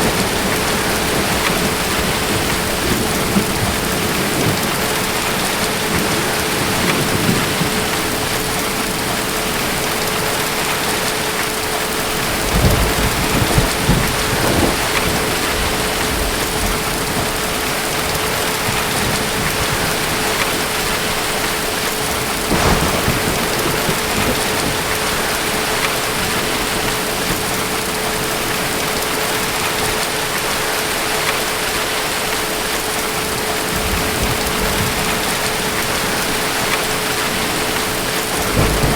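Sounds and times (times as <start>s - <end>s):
heavy rain: 0.0s - 38.9s
thunder rumbling: 0.0s - 38.9s.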